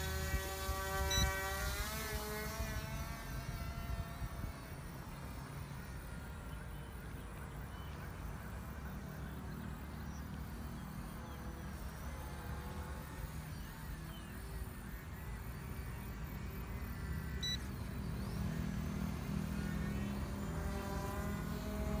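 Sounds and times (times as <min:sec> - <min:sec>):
faint electric motor hum: 0:00.0 - 0:22.0.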